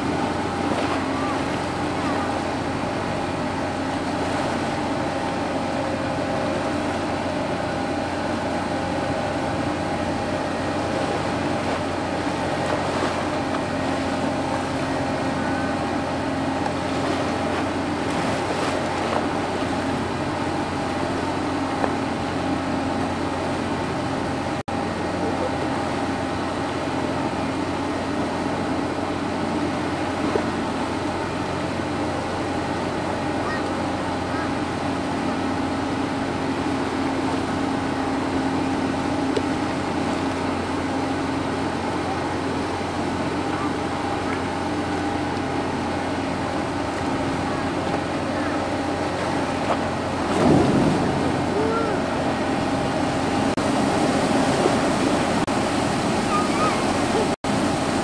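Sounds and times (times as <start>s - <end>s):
ferry machinery drone: 0.0s - 58.0s.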